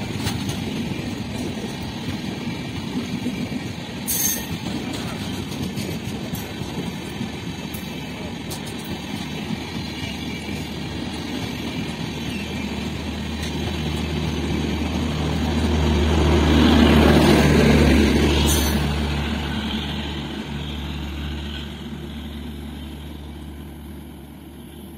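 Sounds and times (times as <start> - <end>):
train wheels rumbling on track: 0.0 - 24.9.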